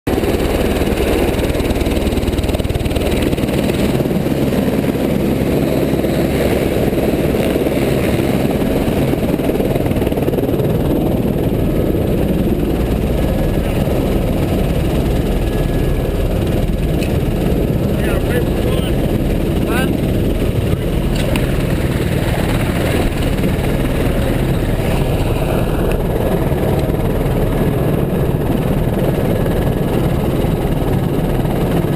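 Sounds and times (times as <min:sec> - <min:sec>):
helicopter engine and rotor: 0:00.1 - 0:31.9.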